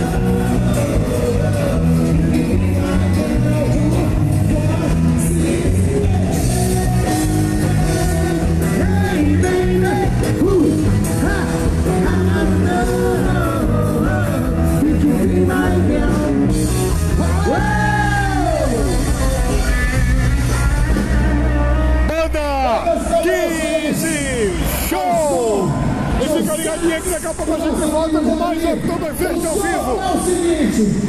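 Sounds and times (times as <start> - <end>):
live band dance music: 0.0 - 31.0.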